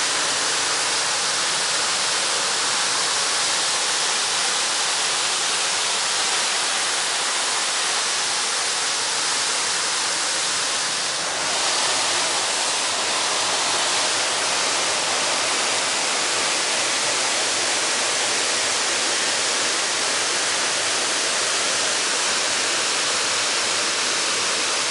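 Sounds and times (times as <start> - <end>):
waterfall roaring: 0.0 - 24.9.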